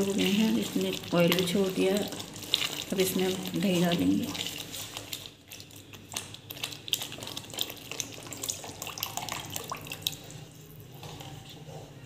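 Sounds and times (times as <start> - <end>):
thick gravy squelching and sloshing: 0.0 - 12.0.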